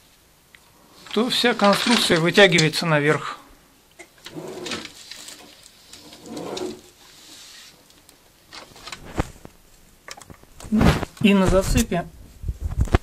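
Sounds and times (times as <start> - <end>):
rustling and scraping: 0.9 - 2.8, 4.2 - 13.0.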